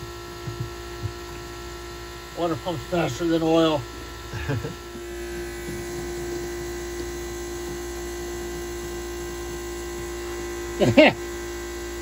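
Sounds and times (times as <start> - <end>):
transfer pump humming: 0.0 - 12.0.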